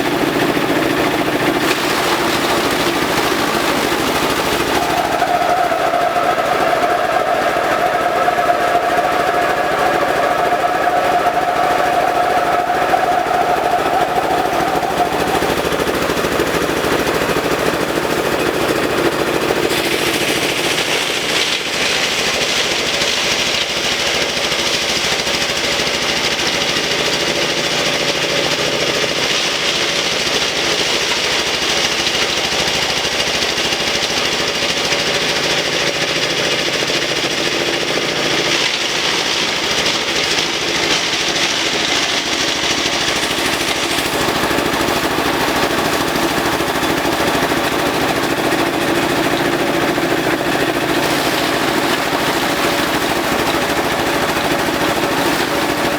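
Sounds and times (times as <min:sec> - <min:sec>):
shredder rattling clatter: 0:00.0 - 0:55.9.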